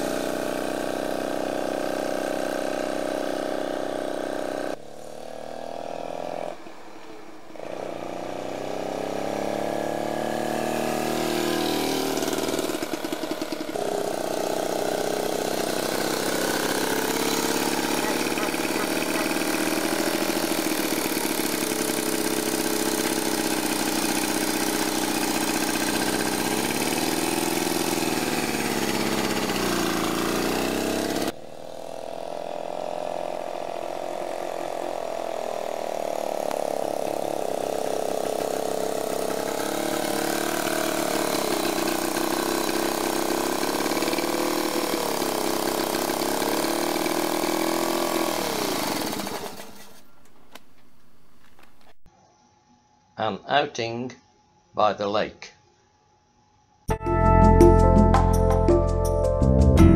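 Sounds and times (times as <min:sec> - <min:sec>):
motorcycle engine revving: 0:00.0 - 0:52.1.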